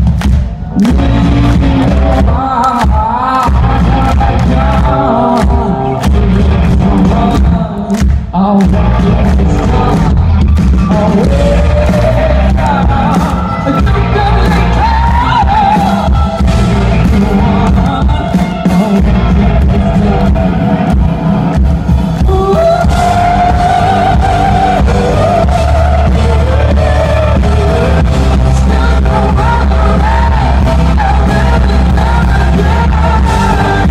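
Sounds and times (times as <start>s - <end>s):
lead vocal singing: 0.0s - 33.9s
live rock band playing: 0.0s - 33.9s.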